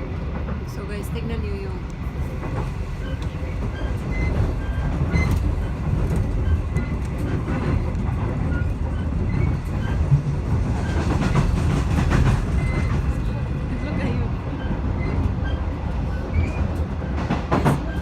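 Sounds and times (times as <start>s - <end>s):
train wheels rumbling: 0.0s - 18.0s.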